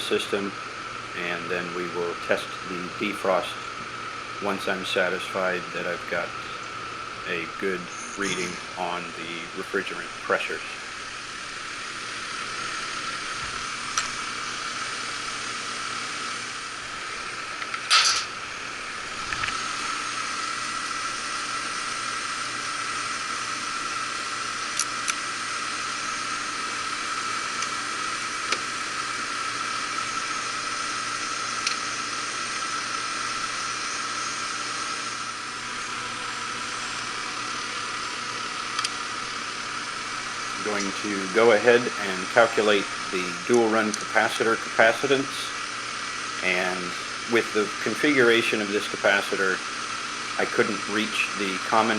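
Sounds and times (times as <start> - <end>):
heat pump whooshing hum: 0.0 - 51.9.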